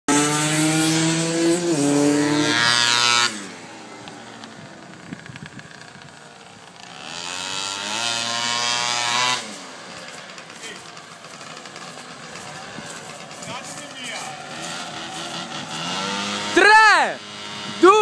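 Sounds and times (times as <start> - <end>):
distant scooter engine: 0.1 - 18.0
scooter engine revving: 0.1 - 18.0.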